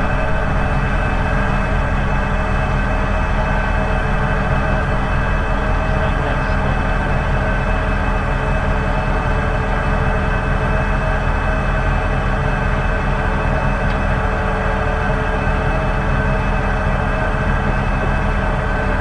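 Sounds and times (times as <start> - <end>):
rig engine and hydraulics droning: 0.0 - 19.0.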